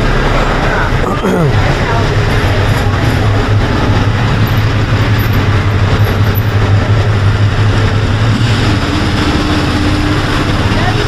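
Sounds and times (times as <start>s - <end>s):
bus engine droning: 0.0s - 11.0s
street traffic: 0.0s - 11.0s.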